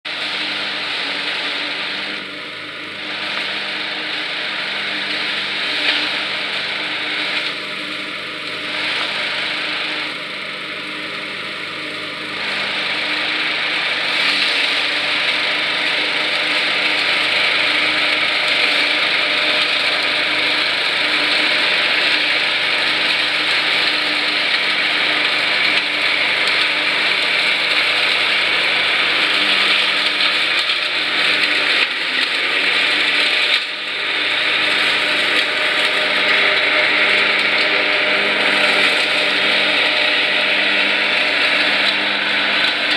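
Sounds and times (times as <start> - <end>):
mower deck mulching dry leaves: 0.0 - 42.9
riding lawn mower engine: 0.0 - 42.9.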